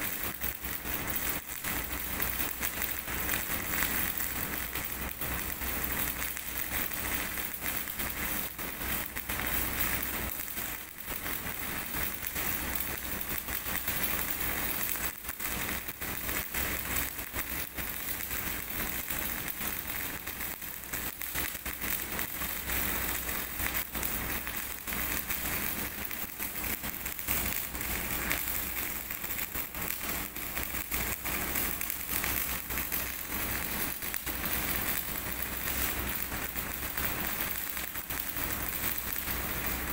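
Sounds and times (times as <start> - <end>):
welding arc crackling sizzle: 0.0 - 39.9.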